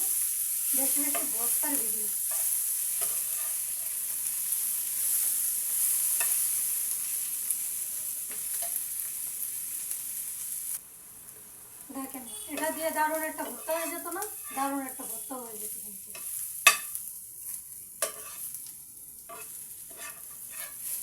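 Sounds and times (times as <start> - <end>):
fish sizzling in frying oil: 0.0 - 21.0.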